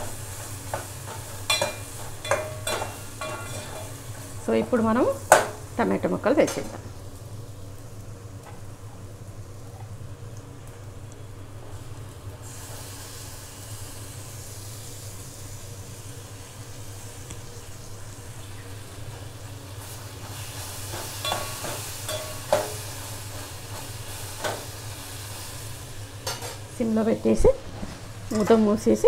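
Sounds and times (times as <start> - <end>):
vegetables frying in oil: 0.0 - 29.0.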